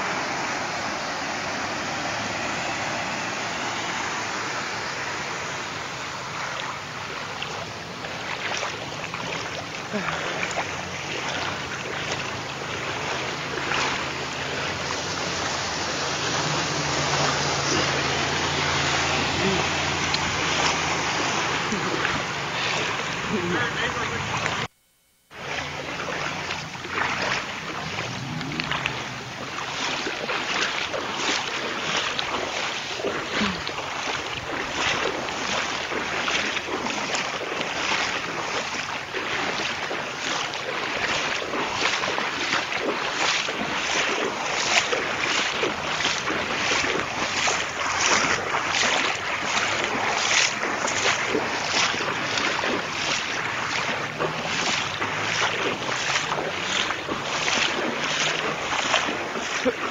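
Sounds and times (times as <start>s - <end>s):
footsteps splashing in water: 0.0s - 24.7s, 25.3s - 59.9s.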